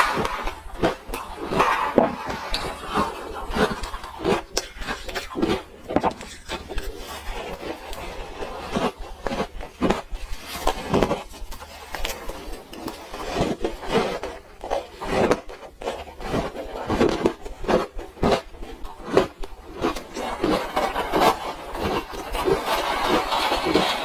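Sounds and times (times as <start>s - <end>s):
ice being crunched: 0.0s - 24.0s.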